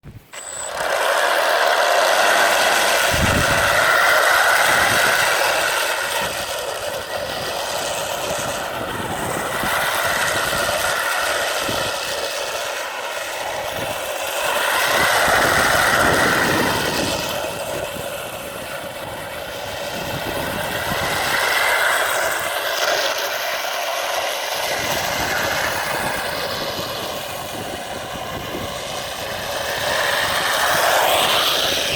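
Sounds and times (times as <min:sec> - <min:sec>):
rc tank motors whining and rattling: 0:00.0 - 0:31.9.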